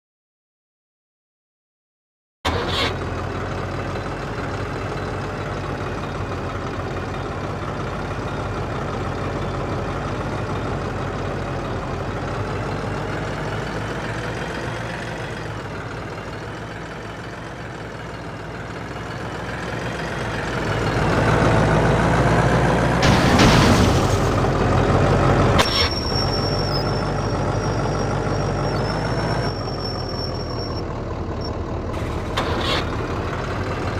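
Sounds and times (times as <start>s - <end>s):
tractor diesel engines pulling: 2.5s - 33.9s.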